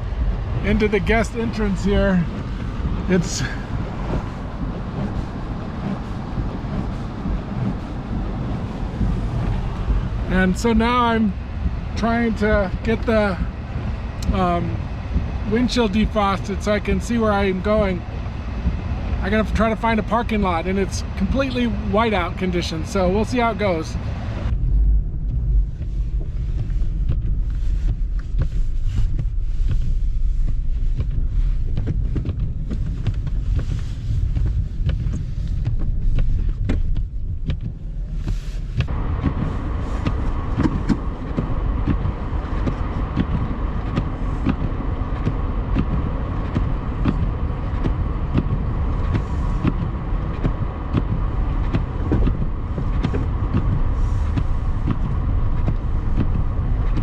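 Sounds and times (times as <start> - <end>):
low rumble of engine and road: 0.0 - 57.0.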